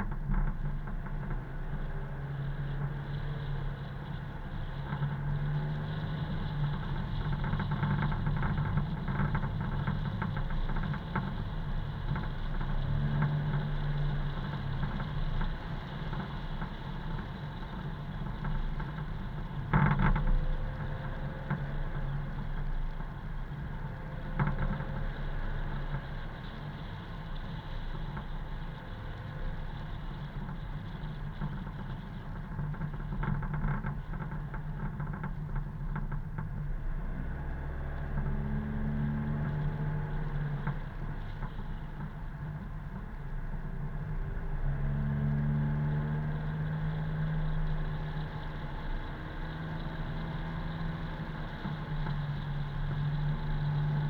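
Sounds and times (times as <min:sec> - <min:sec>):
car engine hum: 0:00.0 - 0:54.0
road noise: 0:00.0 - 0:54.0.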